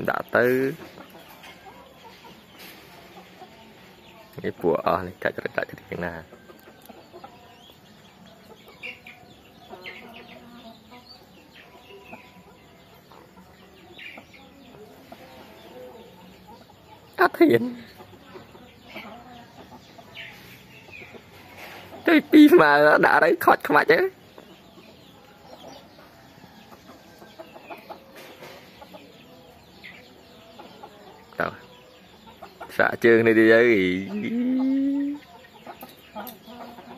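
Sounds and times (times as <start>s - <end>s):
chickens clucking: 0.0s - 36.9s.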